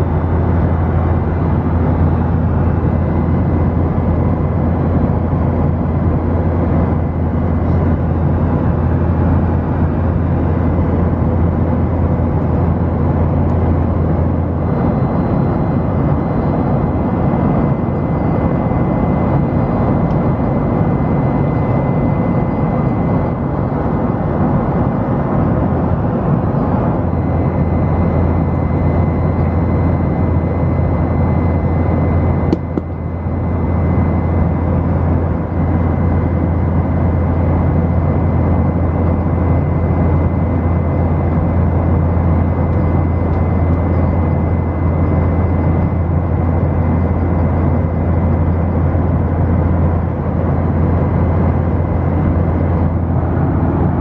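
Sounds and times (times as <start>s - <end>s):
airflow rush in cabin: 0.0s - 54.0s
deep engine hum: 0.0s - 54.0s.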